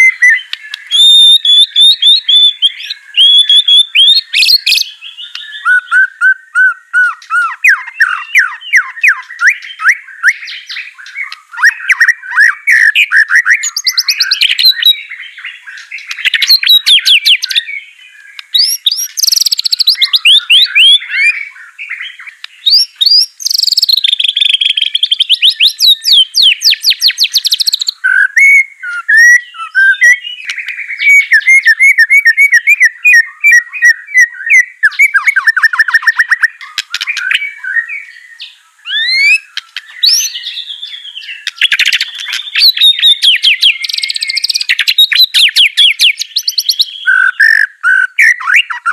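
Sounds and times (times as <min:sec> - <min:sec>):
bird singing whistled song: 0:00.0 - 0:48.9.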